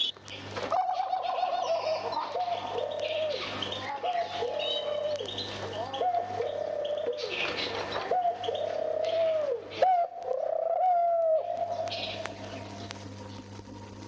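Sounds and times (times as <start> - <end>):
doves cooing: 0.0 - 14.0
vinyl recording hum: 0.0 - 14.0.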